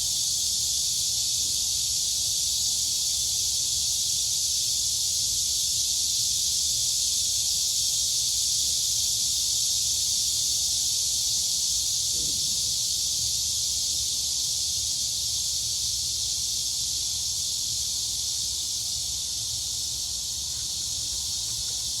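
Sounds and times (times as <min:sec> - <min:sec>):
crickets and cicadas chirping: 0:00.0 - 0:22.0.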